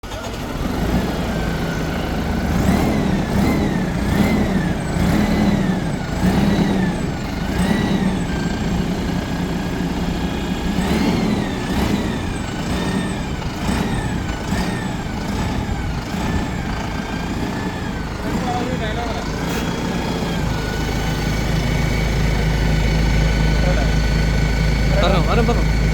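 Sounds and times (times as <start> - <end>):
tractor diesel engine revving: 0.0 - 25.9
turbocharger whine: 0.1 - 25.9.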